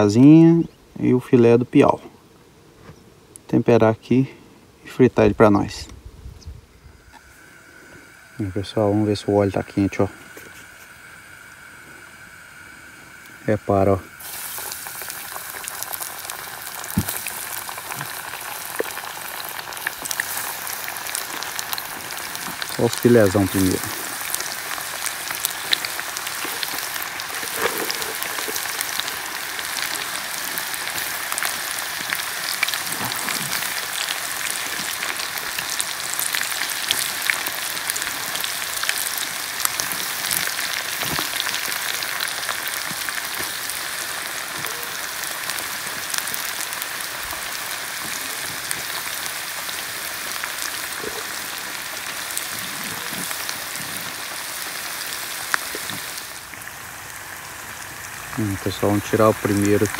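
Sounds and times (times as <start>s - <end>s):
fish deep-frying in oil: 7.0s - 59.9s
oil crackles and pops: 9.6s - 59.9s.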